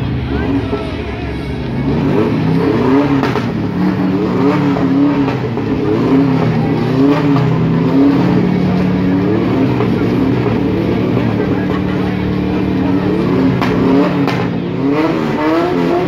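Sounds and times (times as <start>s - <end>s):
car engines idling and revving: 0.0s - 16.0s.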